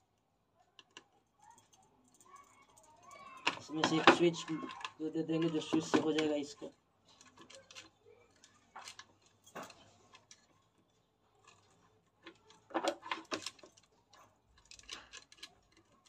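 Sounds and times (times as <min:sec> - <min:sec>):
wires and metal fittings rattling: 0:00.0 - 0:16.0.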